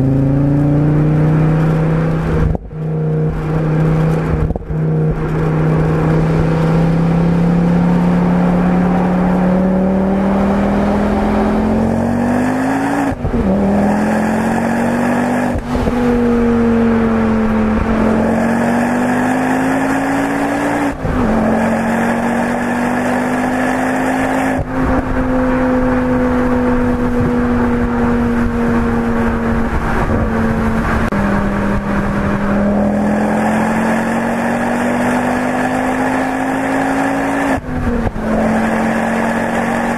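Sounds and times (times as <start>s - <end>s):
car engine revving and shifting: 0.0s - 39.9s
road and wind noise: 0.0s - 39.9s.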